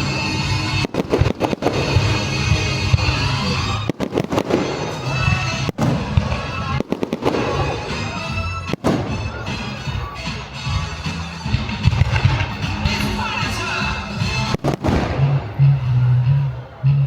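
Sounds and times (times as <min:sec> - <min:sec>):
fireworks bursting and crackling: 0:00.0 - 0:16.0
loud music playing: 0:00.0 - 0:17.0.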